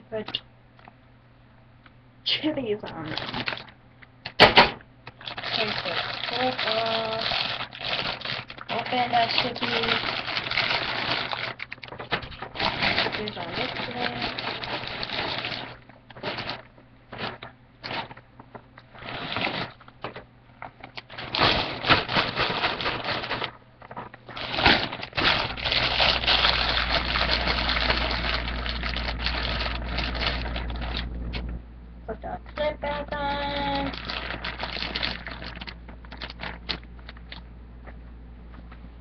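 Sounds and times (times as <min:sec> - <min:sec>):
chip bag crinkling: 0:02.8 - 0:31.5, 0:32.8 - 0:37.5.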